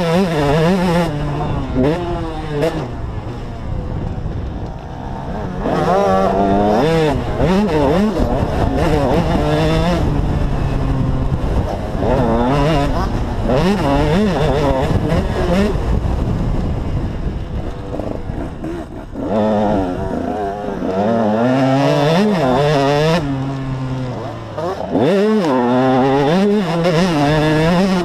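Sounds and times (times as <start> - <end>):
motocross engine at full throttle: 0.0 - 28.0
rough-ground rumble: 0.0 - 28.0
wind: 0.0 - 28.0.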